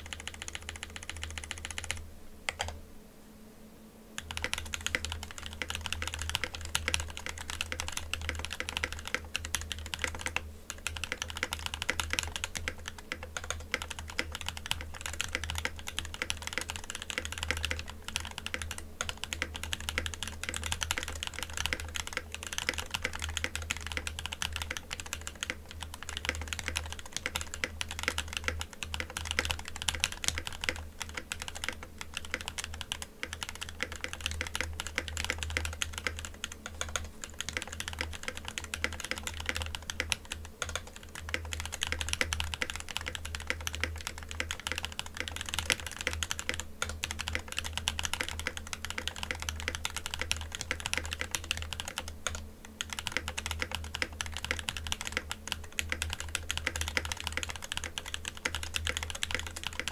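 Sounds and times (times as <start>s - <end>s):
mechanical keyboard typing: 0.0s - 2.8s, 4.2s - 59.9s.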